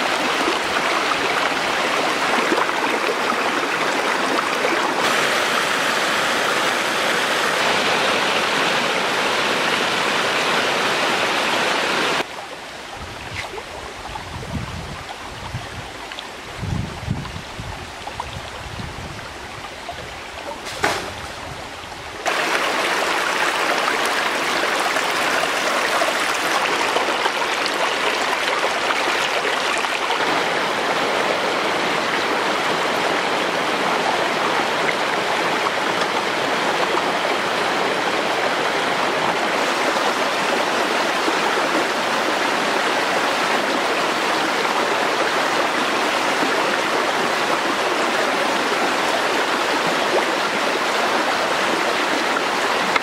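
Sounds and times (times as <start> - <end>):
stream rushing over stones: 0.0 - 53.0.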